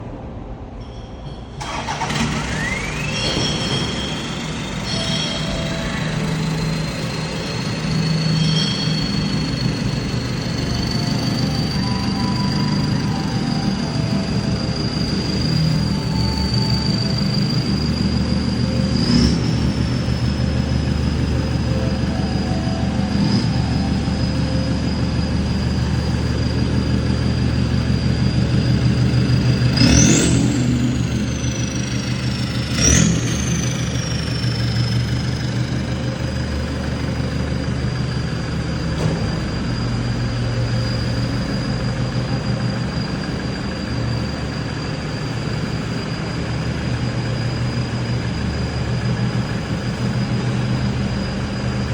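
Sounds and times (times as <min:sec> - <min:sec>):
engine throttle blips: 0:00.1 - 0:51.9
high whistle: 0:00.8 - 0:51.9
engine idling: 0:01.5 - 0:51.9.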